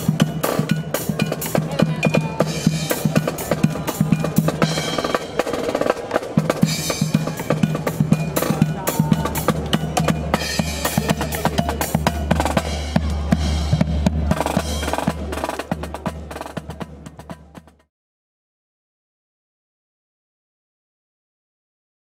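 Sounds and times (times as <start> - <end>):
marching band playing: 0.0 - 17.9
snare and bass drums: 0.0 - 17.9.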